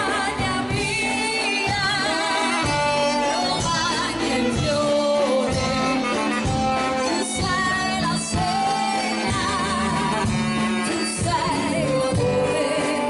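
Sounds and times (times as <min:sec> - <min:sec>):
live folk dance band: 0:00.0 - 0:13.0.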